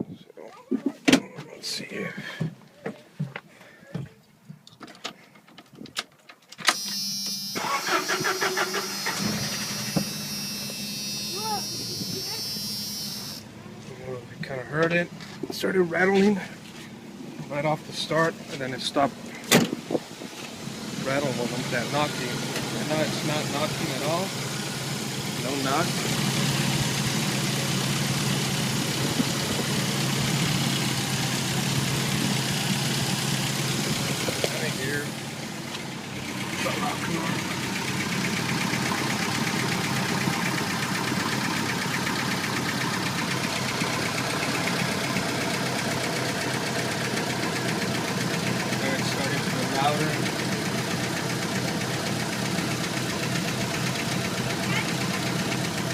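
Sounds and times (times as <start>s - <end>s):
engine cranking and idling: 7.6s - 55.9s.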